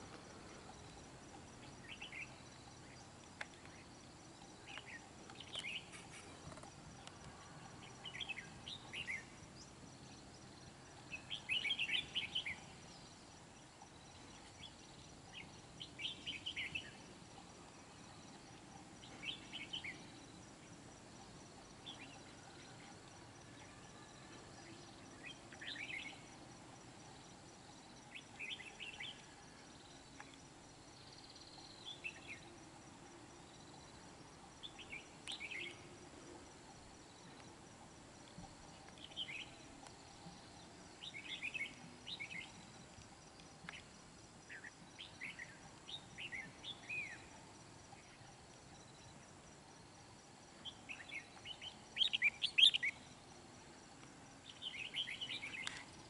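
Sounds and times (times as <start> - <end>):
faint background noise: 0.0 - 56.0.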